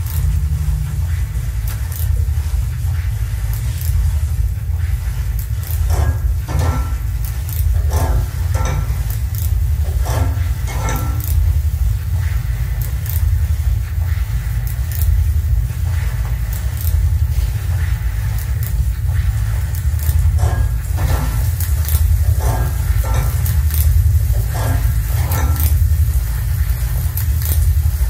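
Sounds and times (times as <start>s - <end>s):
low rumble with clicks: 0.0s - 28.0s.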